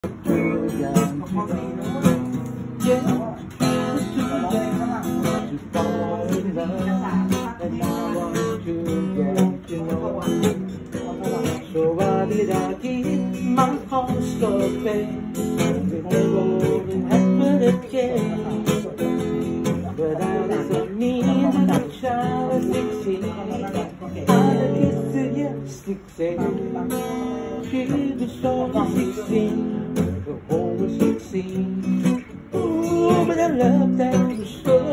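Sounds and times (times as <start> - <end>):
acoustic guitar strumming: 0.0 - 34.9
man singing: 0.0 - 34.9.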